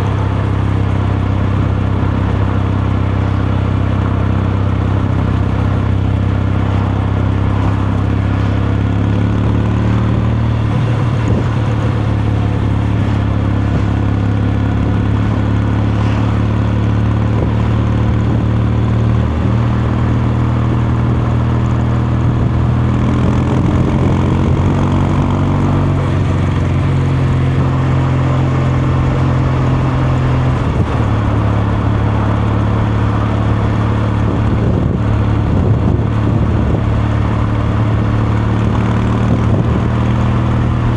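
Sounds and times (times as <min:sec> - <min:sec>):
motorcycle engine droning: 0:00.0 - 0:40.9.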